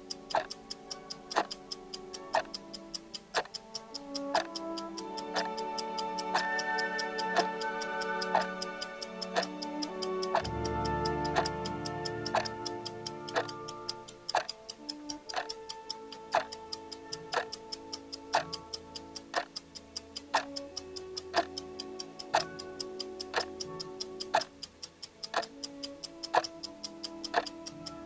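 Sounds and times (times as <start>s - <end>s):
clock ticking: 0.0s - 28.0s
soft music with held notes: 0.0s - 28.0s.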